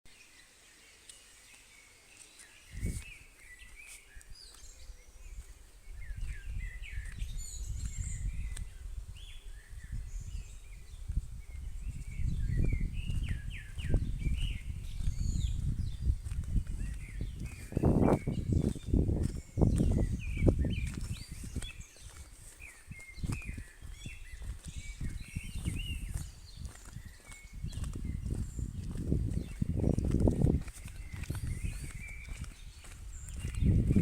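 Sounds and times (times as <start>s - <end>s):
small birds chirping: 0.1s - 34.0s
wind rumbling on microphone: 2.6s - 34.0s.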